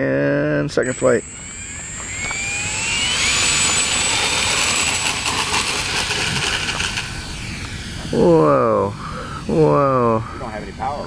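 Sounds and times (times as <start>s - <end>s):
model plane motor buzzing: 0.8s - 11.0s.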